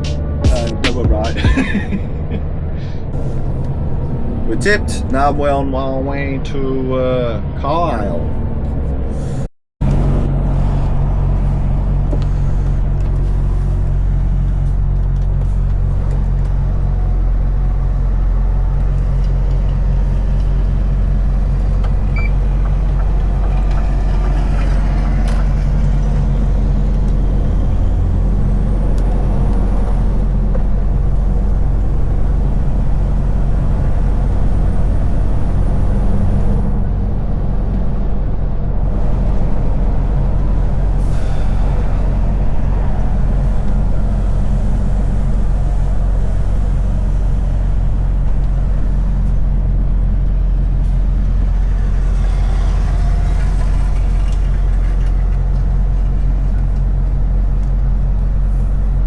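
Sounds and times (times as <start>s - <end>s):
diesel truck engine droning: 0.0s - 59.0s.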